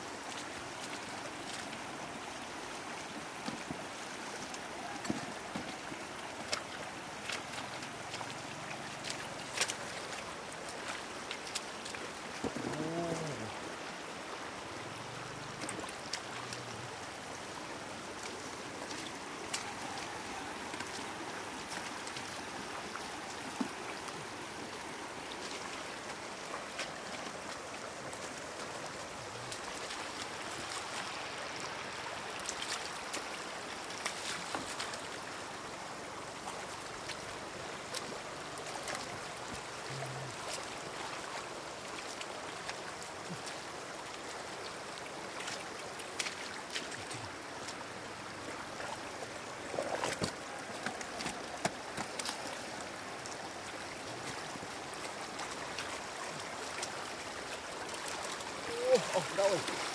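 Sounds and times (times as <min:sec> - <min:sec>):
floodwater running: 0:00.0 - 0:59.9
water splashes and knocks: 0:03.0 - 0:13.5, 0:15.4 - 0:31.4, 0:32.2 - 0:35.2, 0:36.4 - 0:59.9.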